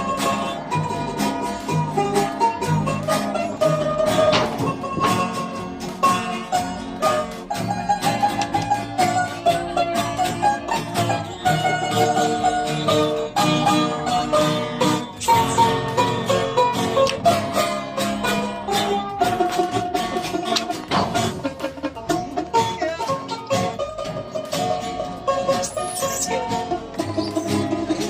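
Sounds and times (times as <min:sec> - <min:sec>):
plucked string music: 0:00.0 - 0:28.0.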